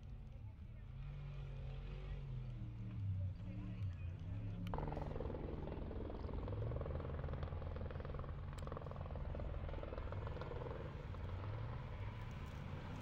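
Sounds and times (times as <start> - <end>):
race vehicle engine running hard: 0.1 - 13.0.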